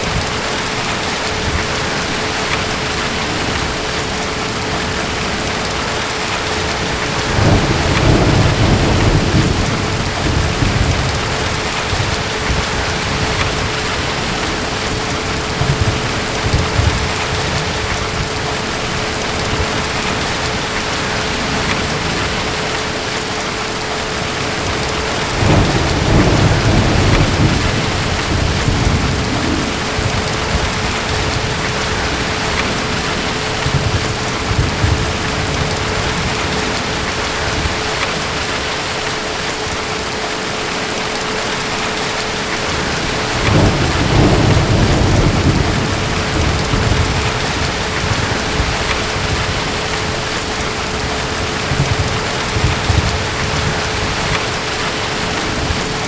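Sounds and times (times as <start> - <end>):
distant thunder rolling: 0.0 - 23.4, 24.2 - 38.6, 42.4 - 56.0
heavy rain: 0.0 - 56.0.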